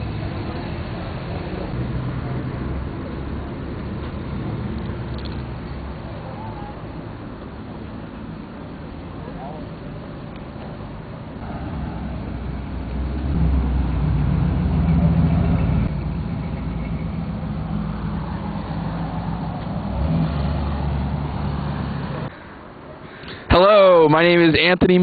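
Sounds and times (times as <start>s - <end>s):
vehicle engine running: 0.0s - 22.4s.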